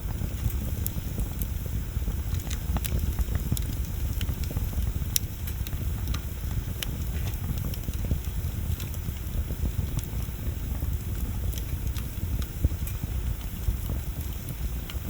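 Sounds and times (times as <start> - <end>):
burning wood crackling and popping: 0.0 - 15.0
low rumble of bonfire: 0.0 - 15.0.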